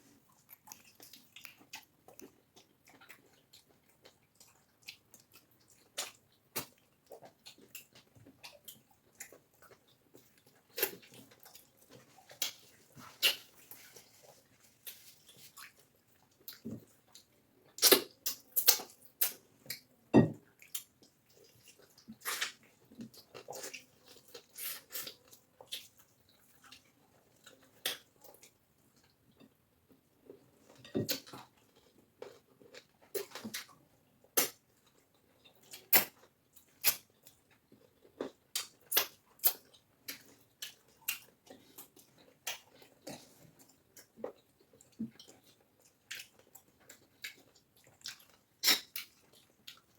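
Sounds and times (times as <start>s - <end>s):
wet chewing and lip smacks: 0.3s - 19.8s, 20.6s - 29.1s, 34.4s - 49.9s.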